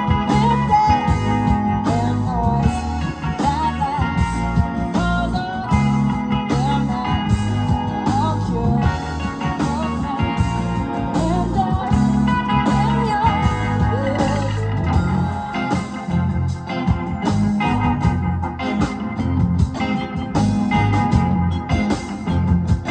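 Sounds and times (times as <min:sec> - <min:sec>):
live rock band playing: 0:00.0 - 0:22.9.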